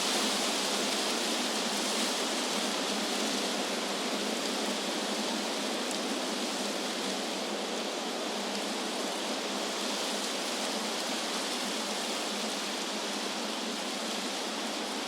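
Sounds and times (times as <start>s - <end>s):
wind through trees: 0.0s - 15.0s.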